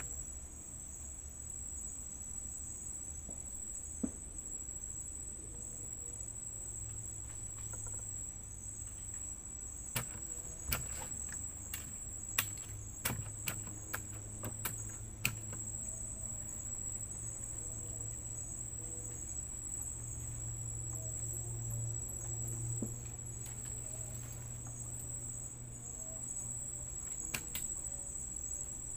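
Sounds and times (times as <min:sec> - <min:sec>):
insects chirring: 0:00.0 - 0:28.9
low steady hum: 0:00.0 - 0:28.9.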